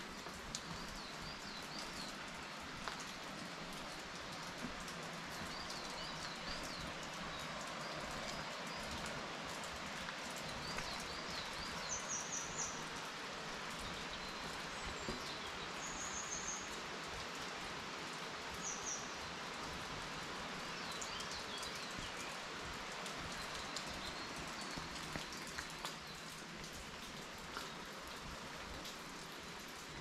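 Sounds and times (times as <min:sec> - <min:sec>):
rain hissing in forest: 0:00.0 - 0:30.0
raindrop ticks: 0:00.0 - 0:30.0
songbirds chirping: 0:00.0 - 0:30.0.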